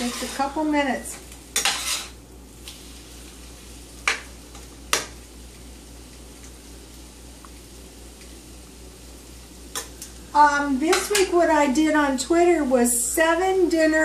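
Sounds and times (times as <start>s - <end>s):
food sizzling in a skillet: 0.0s - 14.0s.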